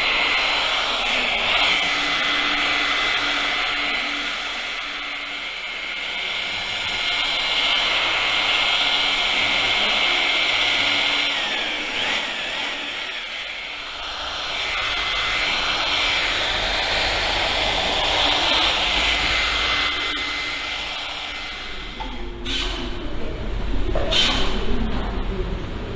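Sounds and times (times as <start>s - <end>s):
electric polisher motor whine: 0.0s - 22.7s.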